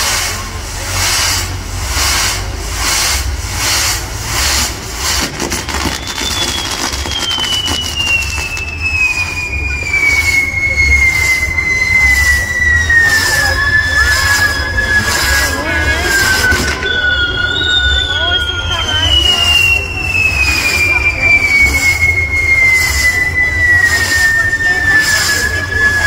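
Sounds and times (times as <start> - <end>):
fireworks crackling: 0.0 - 26.0
fireworks fountains hissing: 0.0 - 26.0
shrill whistle sliding down: 1.0 - 26.0.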